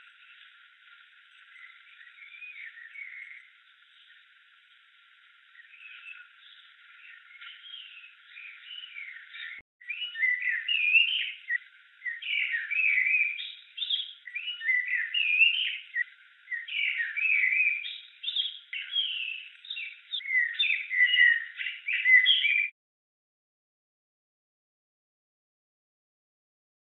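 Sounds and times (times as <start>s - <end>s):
songbird singing: 0.0s - 22.8s.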